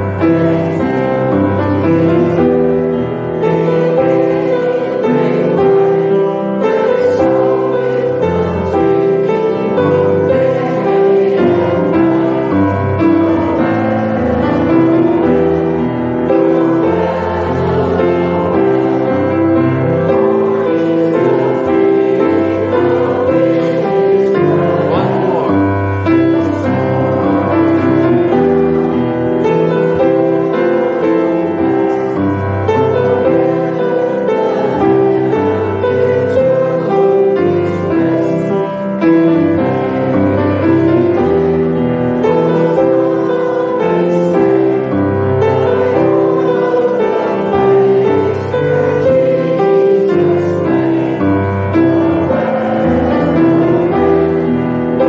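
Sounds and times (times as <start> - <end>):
grand piano accompaniment: 0.0 - 55.0
group of people singing: 0.0 - 55.0.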